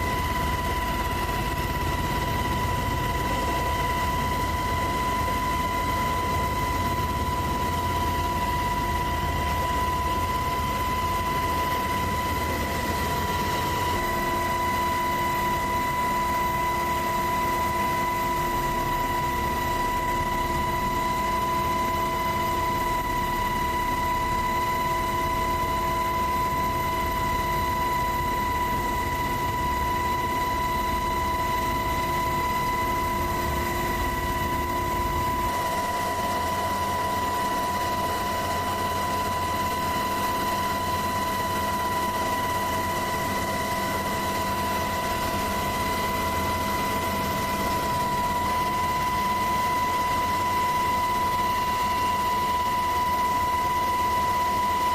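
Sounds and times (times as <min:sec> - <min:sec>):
helicopter low rumble: 0:00.0 - 0:54.9
helicopter whine: 0:00.0 - 0:54.9.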